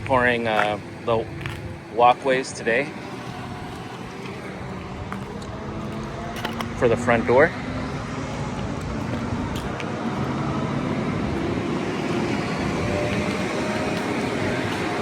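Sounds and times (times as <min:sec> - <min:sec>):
construction machinery engine rumble: 0:00.0 - 0:15.0.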